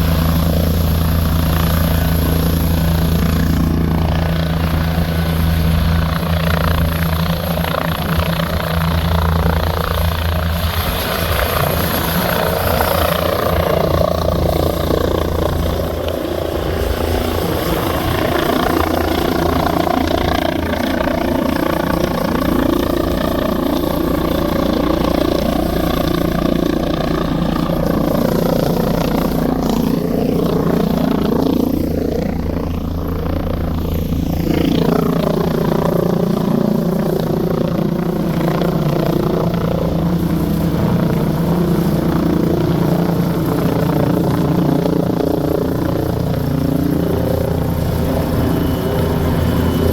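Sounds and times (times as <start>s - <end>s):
helicopter rotors droning: 0.0s - 49.9s
turbine engine whine: 0.0s - 49.9s.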